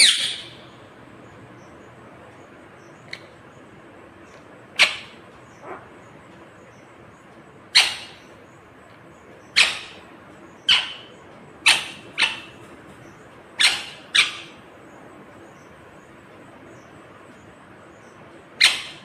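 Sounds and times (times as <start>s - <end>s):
parakeet calling: 0.0s - 1.9s, 2.5s - 16.9s, 17.9s - 19.0s.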